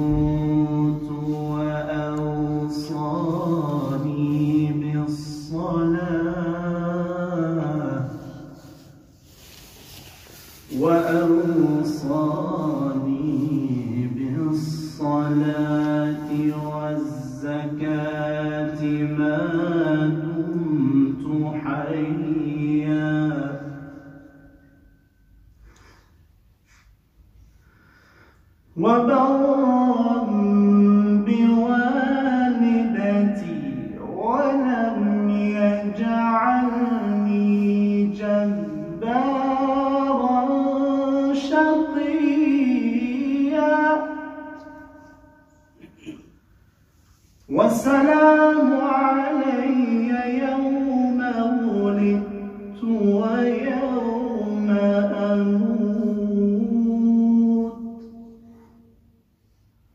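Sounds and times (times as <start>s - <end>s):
man chanting melodically: 0.0s - 9.1s, 10.5s - 24.8s, 28.8s - 46.1s, 47.5s - 58.8s.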